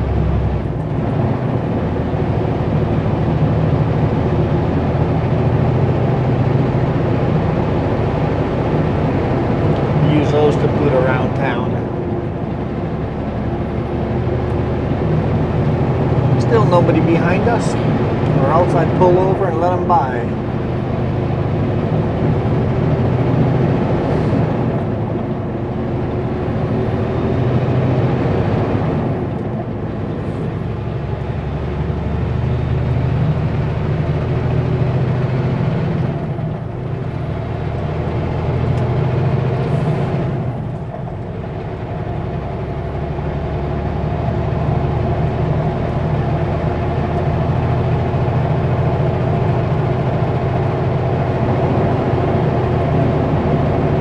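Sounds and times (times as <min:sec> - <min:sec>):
diesel truck engine drone: 0:00.0 - 0:54.0.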